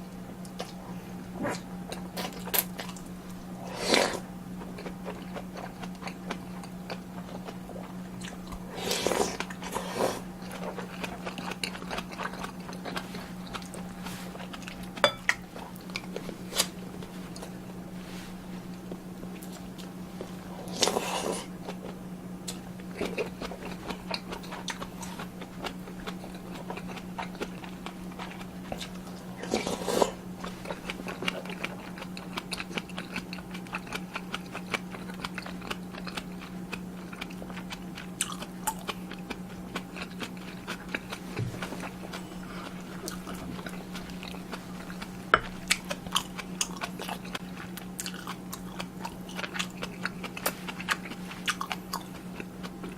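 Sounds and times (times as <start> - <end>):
steady low hum: 0.0 - 52.9
chewing and biting: 3.8 - 17.6, 18.8 - 52.9.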